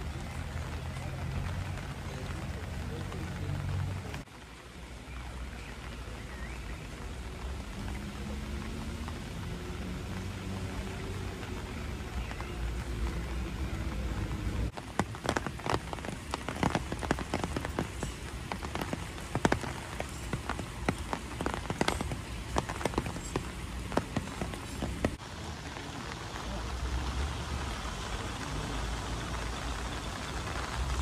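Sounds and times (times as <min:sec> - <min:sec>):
rain falling: 0:00.0 - 0:31.0
raindrops tapping near microphone: 0:00.0 - 0:31.0.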